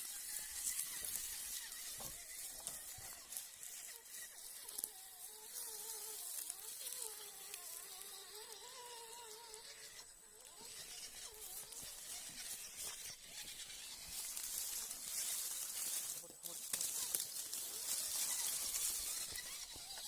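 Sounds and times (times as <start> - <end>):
leaves and twigs crackling: 0.0 - 20.0
small electric motor whining: 0.0 - 20.0.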